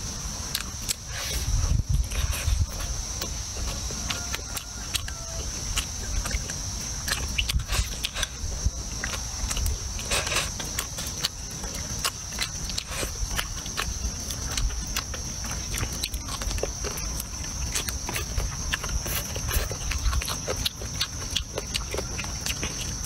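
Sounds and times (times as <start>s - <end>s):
high insect drone: 0.0s - 23.0s
wet mouth chewing and smacking: 0.4s - 23.0s.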